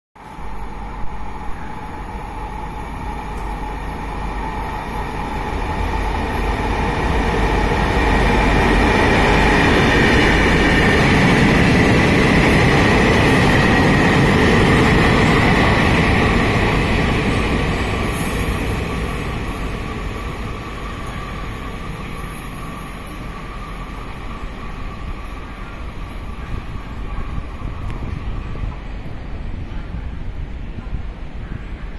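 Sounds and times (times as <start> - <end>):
freight train wheels rumbling: 0.2 - 31.9
locomotive high steady whine: 0.2 - 31.9.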